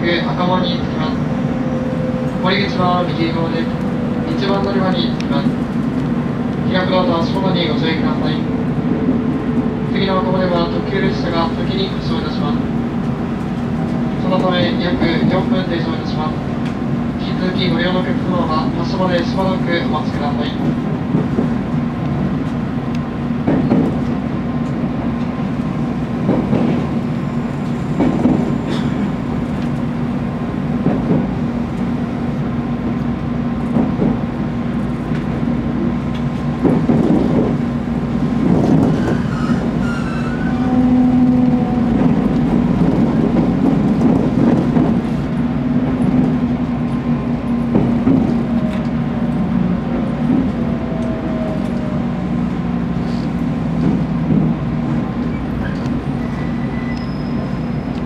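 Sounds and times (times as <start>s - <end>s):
train running hum: 0.0s - 58.0s.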